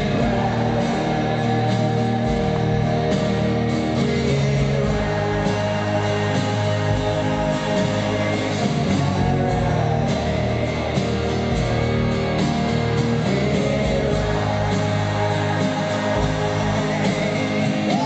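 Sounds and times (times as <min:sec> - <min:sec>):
acoustic guitar: 0:00.0 - 0:18.0
drums: 0:00.0 - 0:18.0
man singing: 0:00.0 - 0:18.0.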